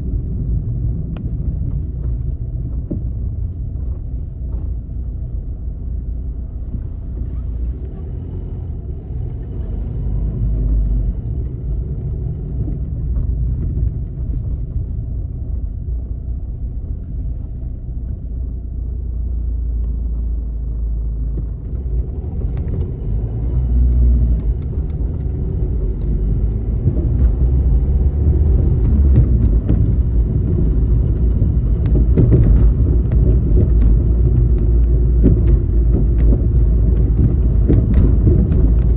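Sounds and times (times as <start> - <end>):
car driving rumble from inside: 0.0 - 38.9.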